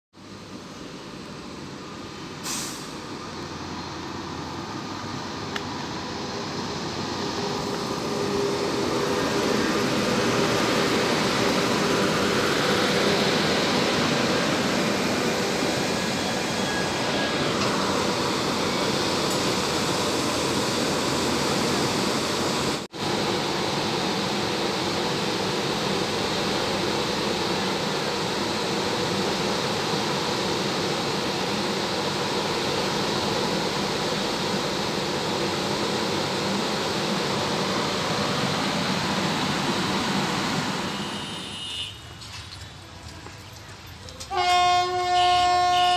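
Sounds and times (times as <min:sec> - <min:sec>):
train wheels rumbling on rails: 0:02.9 - 0:45.9.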